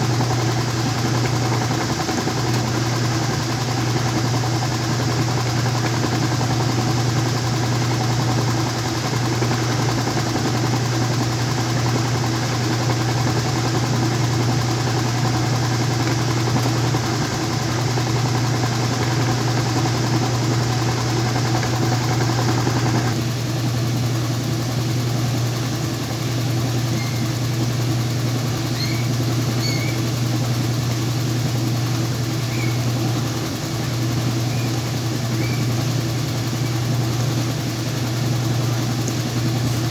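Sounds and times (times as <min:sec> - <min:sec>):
washing machine spin cycle hum: 0:00.0 - 0:39.9.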